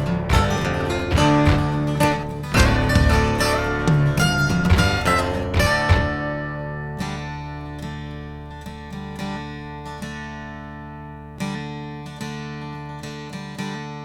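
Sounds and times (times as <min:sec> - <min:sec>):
acoustic guitar chords and picked notes: 0:00.0 - 0:14.0.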